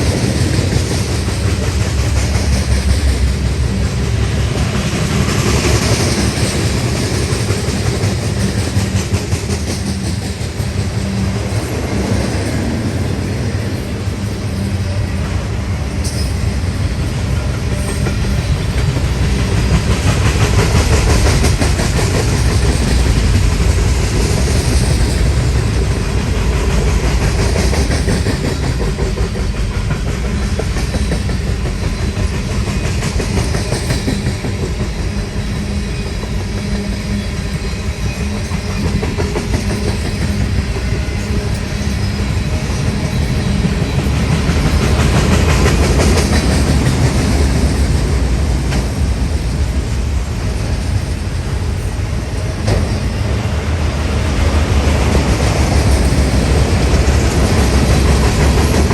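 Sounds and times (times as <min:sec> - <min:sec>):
train rumbling past: 0:00.0 - 0:58.9
wheels clacking over rail joints: 0:00.0 - 0:58.9.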